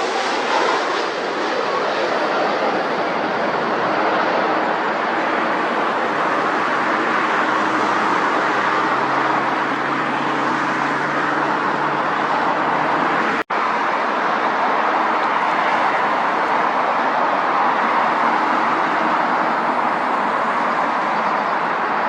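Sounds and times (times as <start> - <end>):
engine and traffic roar: 0.0 - 22.0.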